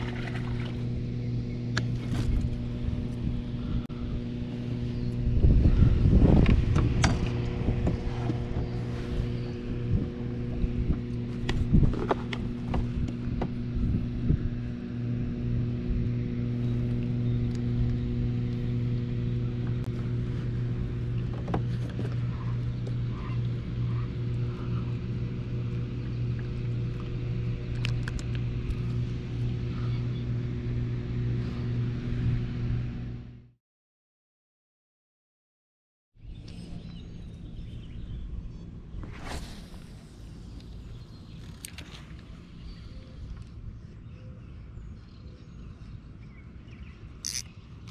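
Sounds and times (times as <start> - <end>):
machine hum: 0.0 - 33.5, 36.2 - 47.9.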